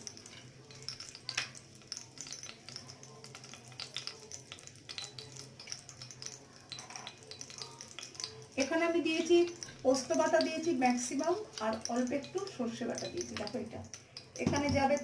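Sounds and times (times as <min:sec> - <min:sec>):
seeds crackling in hot oil: 0:00.0 - 0:15.0.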